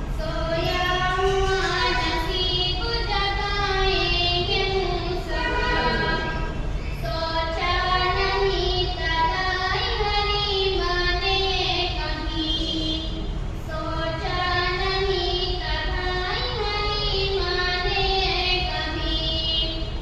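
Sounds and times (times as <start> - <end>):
high voice singing devotional song: 0.0 - 20.0.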